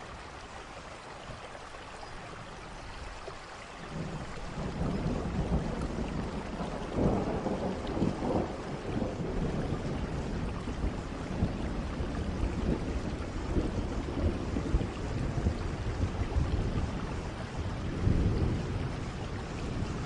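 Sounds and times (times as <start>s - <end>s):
steady rain: 0.0s - 20.0s
rolling thunder: 3.9s - 20.0s.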